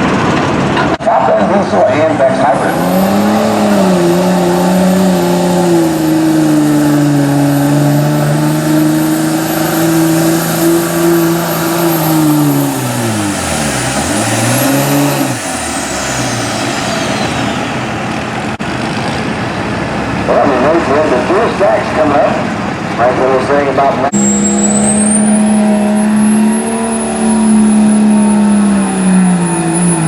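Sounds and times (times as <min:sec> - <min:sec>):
diesel truck engine at full throttle: 0:00.0 - 0:30.0
high turbo whine: 0:00.0 - 0:30.0.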